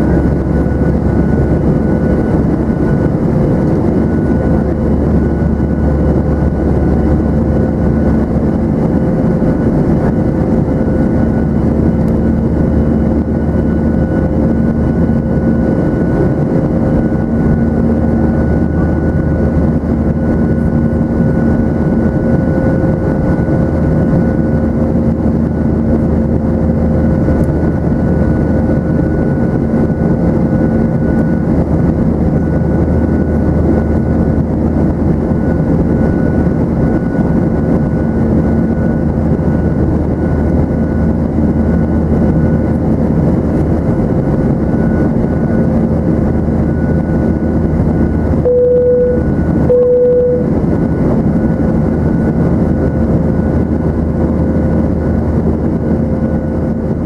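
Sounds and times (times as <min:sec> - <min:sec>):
jet engines roaring: 0:00.0 - 0:57.0
steady hums: 0:00.0 - 0:57.0.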